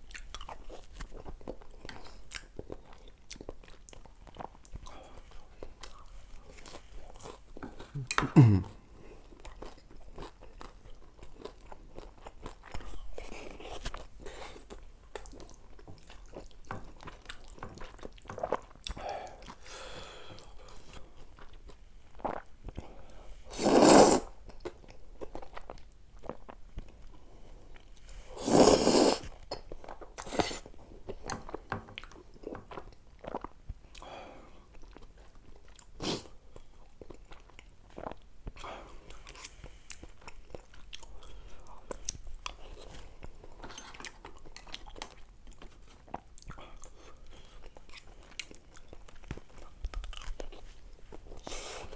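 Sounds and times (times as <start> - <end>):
chewing and crunching food: 0.0 - 23.6, 24.3 - 51.9.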